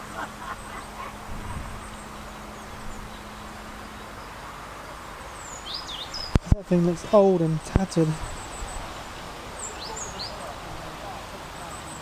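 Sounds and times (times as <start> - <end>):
low machine hum: 0.0 - 10.1.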